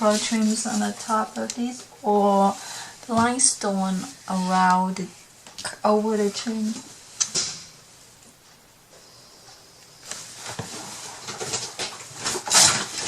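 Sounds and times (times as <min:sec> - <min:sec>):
rustling of craft materials: 0:00.0 - 0:13.0.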